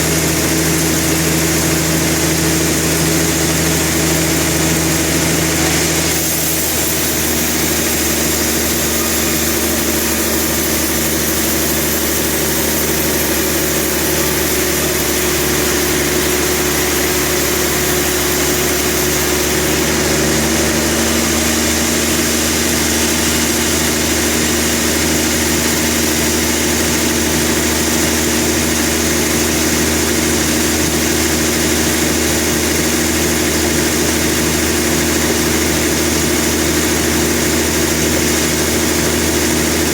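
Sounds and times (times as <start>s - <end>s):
sawmill machinery engine humming: 0.0s - 39.9s.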